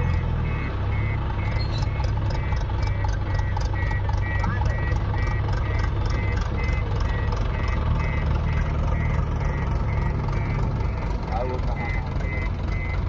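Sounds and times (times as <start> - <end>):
heavy diesel engine running: 0.0 - 13.0
reversing alarm beeping: 0.0 - 13.0.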